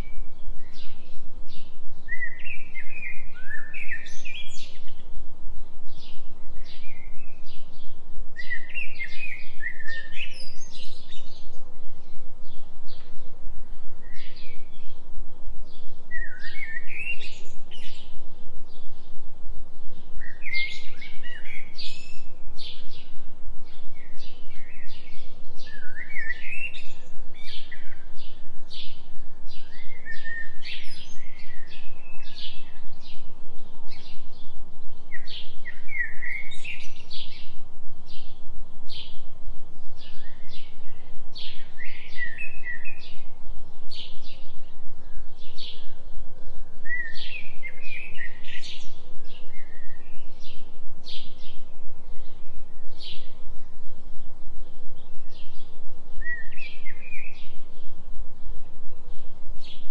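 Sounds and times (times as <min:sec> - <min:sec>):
low steady binaural tone: 0:00.0 - 0:59.9
songbirds chirping and trilling: 0:00.0 - 0:59.9.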